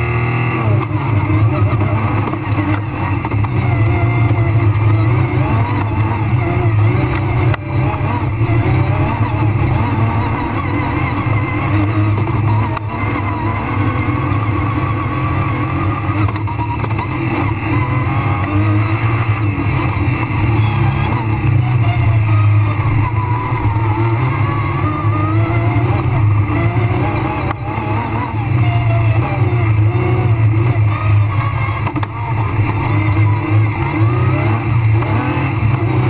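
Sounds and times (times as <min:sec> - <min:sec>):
rally car engine revving: 0:00.0 - 0:36.0
road noise rush: 0:00.0 - 0:36.0.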